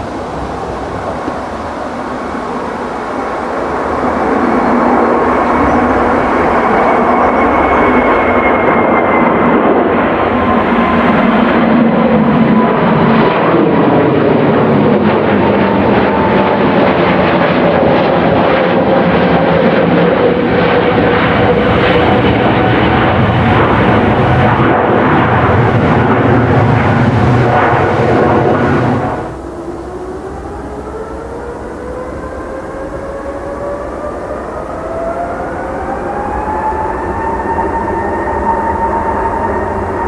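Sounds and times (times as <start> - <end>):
jet airliner roaring overhead: 0.0 - 40.0.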